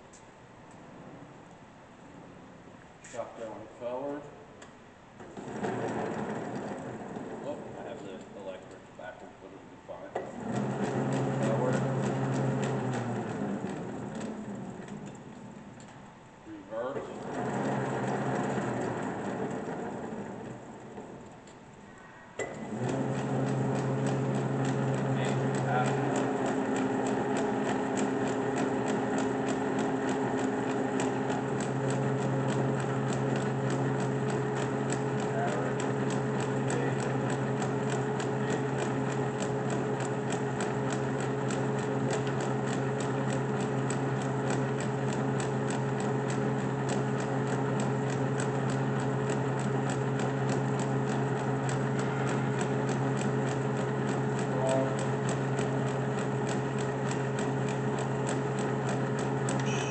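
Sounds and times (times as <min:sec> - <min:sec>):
lathe motor and gearing hum: 0:04.6 - 0:59.9.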